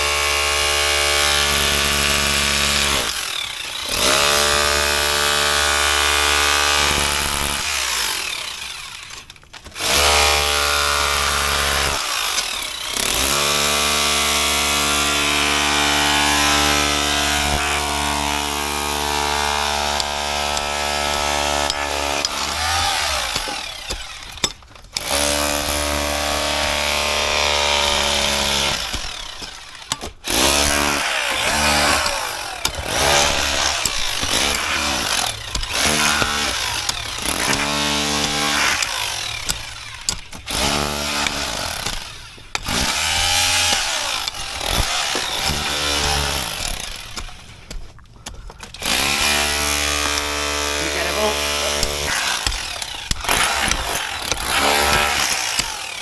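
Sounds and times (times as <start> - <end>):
power tool motor running: 0.0 - 47.9, 48.7 - 56.0.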